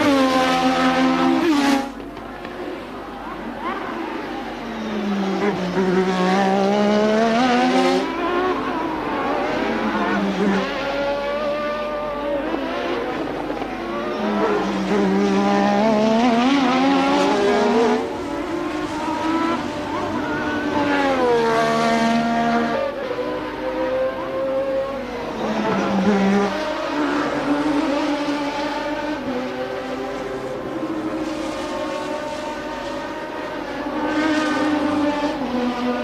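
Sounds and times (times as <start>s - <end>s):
racing car engine at high revs: 0.0s - 36.0s.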